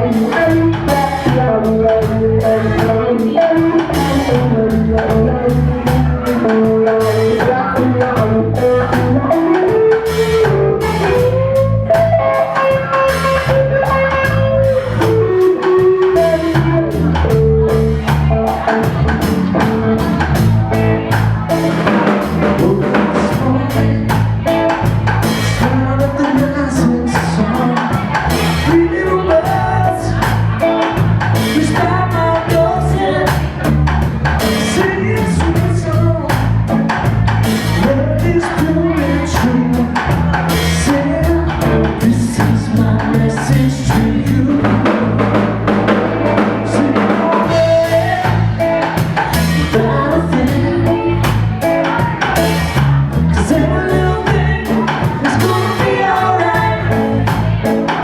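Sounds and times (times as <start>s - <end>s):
melodic lead line: 0.0s - 58.0s
reggae band playing: 0.0s - 58.0s.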